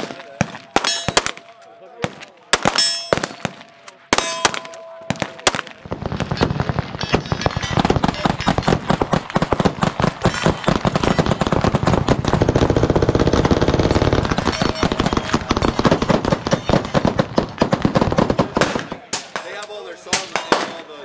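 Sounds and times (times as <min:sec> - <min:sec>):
massed gunfire: 0:02.0 - 0:19.5.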